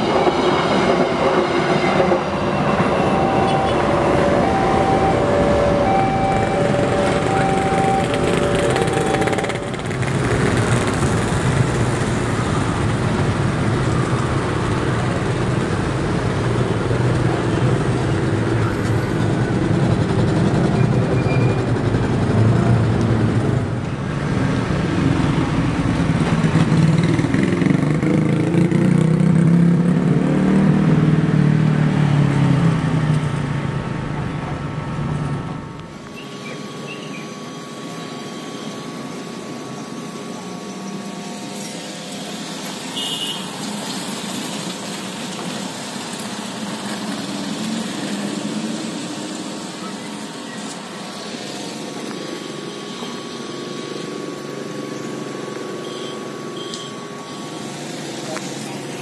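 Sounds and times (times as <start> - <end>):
train wheels rumbling on rails: 0.0 - 55.8
motorcycle and car engines: 0.0 - 59.0.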